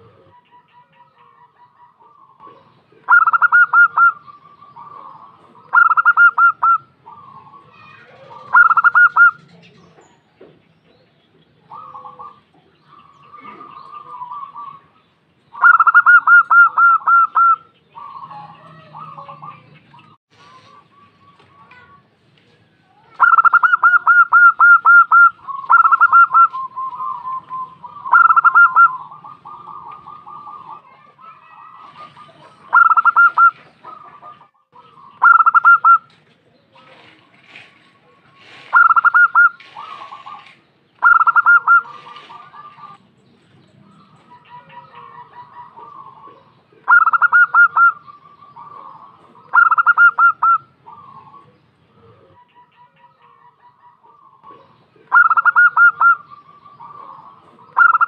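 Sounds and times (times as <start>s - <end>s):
dove cooing: 0.0s - 9.6s, 11.5s - 22.0s, 23.1s - 36.1s, 38.4s - 43.0s, 44.0s - 58.0s
softer rougher dove calls: 0.0s - 9.6s, 11.6s - 22.0s, 23.0s - 36.1s, 36.8s - 43.1s, 43.9s - 58.0s.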